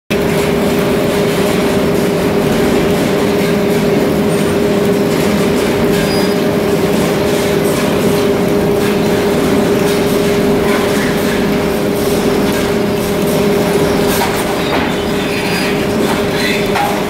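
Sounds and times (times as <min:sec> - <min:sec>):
constant machine rattle: 0:00.1 - 0:17.0
machinery humming: 0:00.1 - 0:17.0.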